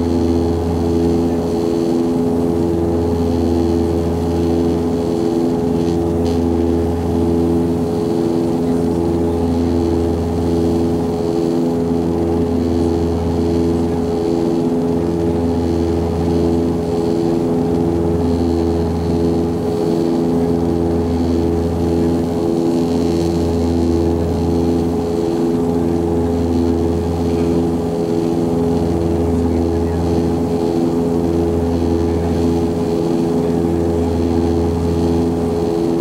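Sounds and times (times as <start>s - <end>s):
propeller engines droning: 0.0s - 36.0s.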